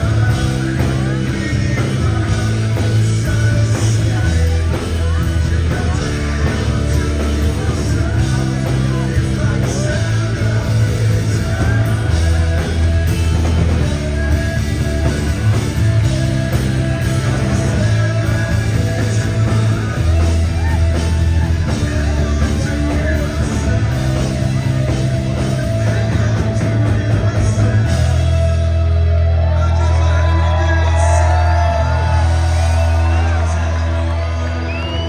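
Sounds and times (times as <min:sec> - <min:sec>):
person singing: 0:00.0 - 0:35.0
rock band playing live: 0:00.0 - 0:35.0.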